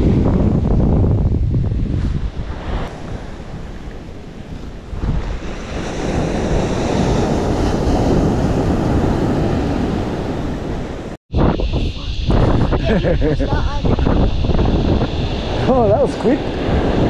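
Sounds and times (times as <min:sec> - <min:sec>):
wind buffeting microphone: 0:00.0 - 0:17.0
ocean surf breaking: 0:02.0 - 0:11.2, 0:11.9 - 0:17.0.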